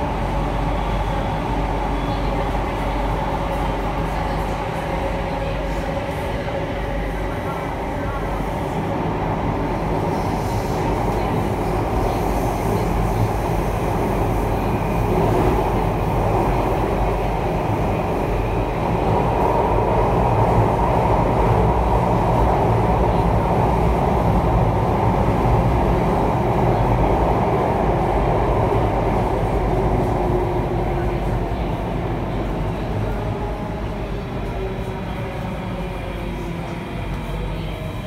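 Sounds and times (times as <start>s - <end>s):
metro train wheels rumbling: 0.0s - 38.0s.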